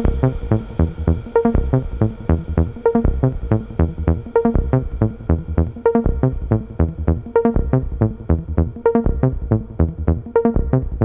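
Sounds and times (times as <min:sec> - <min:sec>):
bass line: 0:00.0 - 0:11.0
electronic beat: 0:00.0 - 0:11.0.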